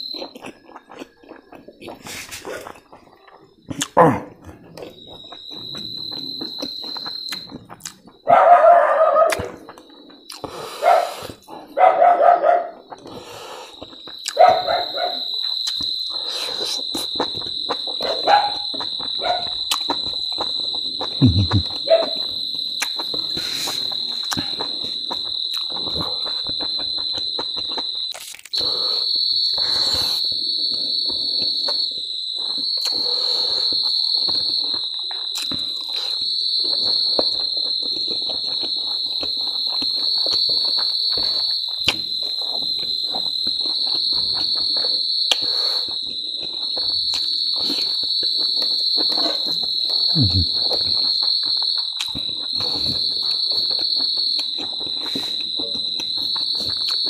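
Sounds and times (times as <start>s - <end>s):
chewing and crunching: 0.0s - 57.0s
crickets trilling: 0.0s - 57.0s.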